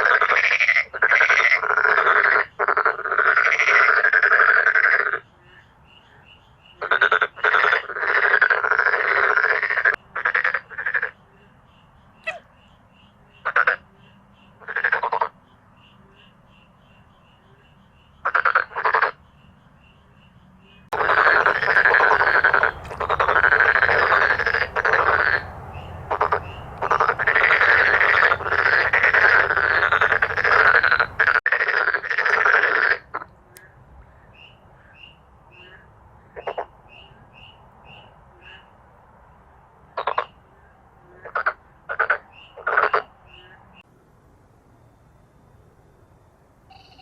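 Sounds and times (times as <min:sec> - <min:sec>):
frogs croaking in chorus: 0:00.0 - 0:43.9, 0:46.6 - 0:47.0.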